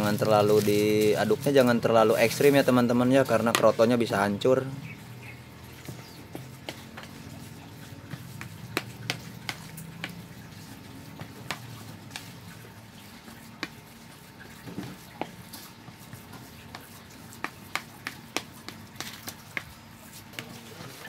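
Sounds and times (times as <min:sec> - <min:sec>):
spatula scraping bait mix: 0:00.0 - 0:04.1, 0:04.8 - 0:21.0.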